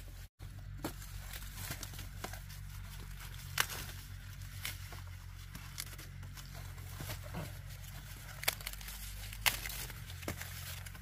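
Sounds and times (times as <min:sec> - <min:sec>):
dry corn husks crinkling: 0:00.0 - 0:11.0
low steady rumble: 0:00.0 - 0:11.0
corn ears snapping and knocking: 0:00.6 - 0:11.0.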